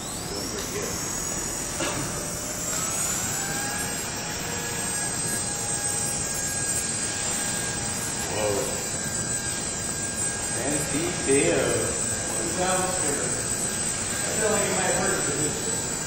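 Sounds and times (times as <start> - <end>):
helicopter rotors whining: 0.0 - 16.0.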